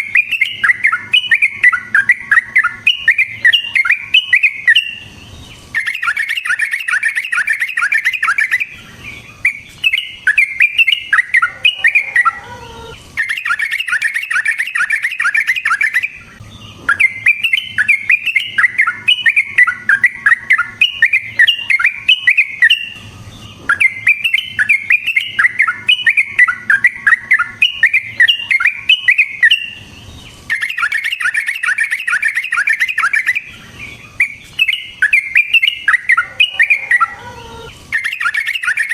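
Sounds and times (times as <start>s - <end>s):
bulbul singing chattering notes: 0.0s - 38.9s.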